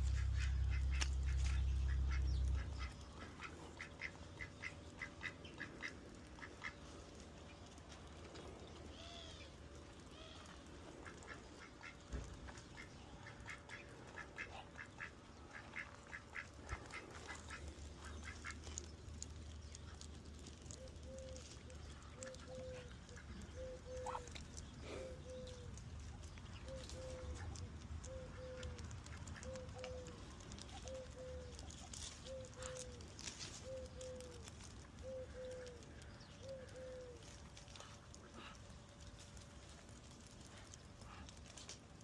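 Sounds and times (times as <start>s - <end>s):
ducks calling: 0.0s - 7.8s, 8.8s - 41.7s.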